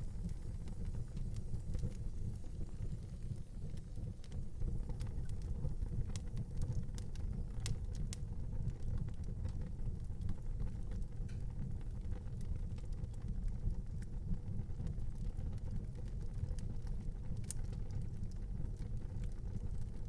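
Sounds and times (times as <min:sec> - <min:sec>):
fire crackling and popping: 0:00.0 - 0:20.0
low rumble of fire: 0:00.0 - 0:20.0.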